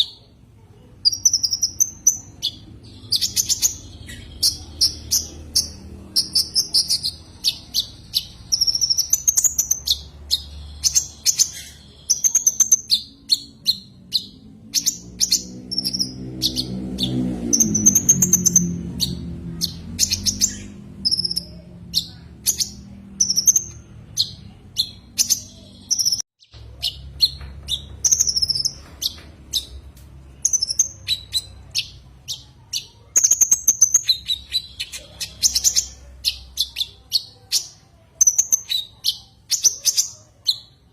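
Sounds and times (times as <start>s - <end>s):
bird singing sharp chirps and trills: 1.0s - 40.9s.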